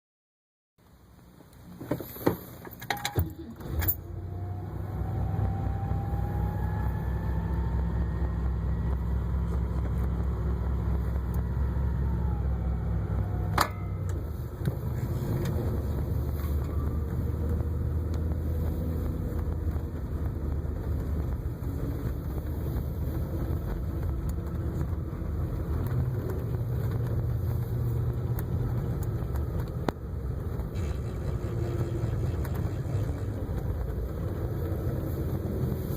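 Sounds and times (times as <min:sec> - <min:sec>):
car engine starting and running: 0:00.8 - 0:35.9
faint whine: 0:00.8 - 0:35.9.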